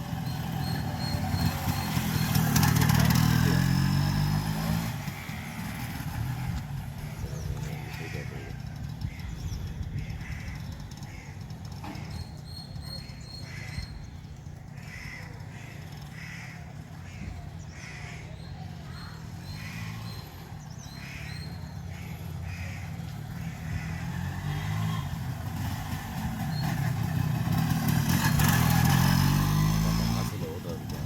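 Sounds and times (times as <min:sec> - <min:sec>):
two-stroke motorcycle engine running: 0:00.0 - 0:31.0.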